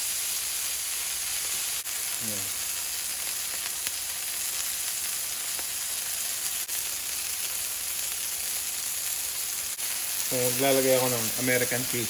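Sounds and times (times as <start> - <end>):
burger patties sizzling in a pan: 0.0 - 12.0.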